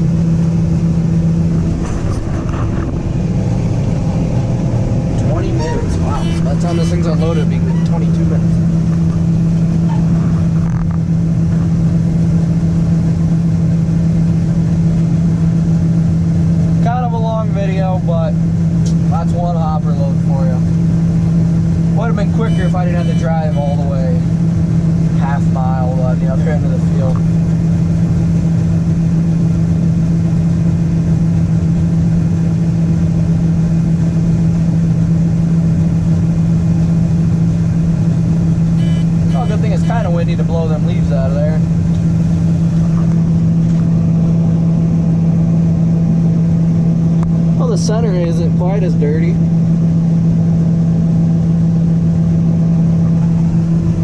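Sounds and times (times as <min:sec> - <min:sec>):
combine harvester engine drone: 0:00.0 - 0:54.0
strong steady hum: 0:00.0 - 0:54.0.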